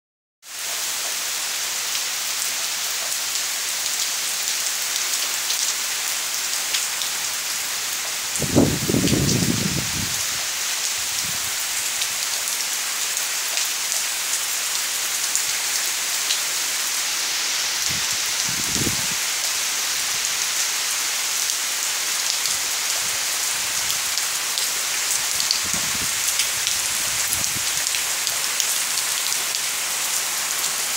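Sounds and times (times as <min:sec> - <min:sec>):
steady rain falling: 0:00.5 - 0:30.9.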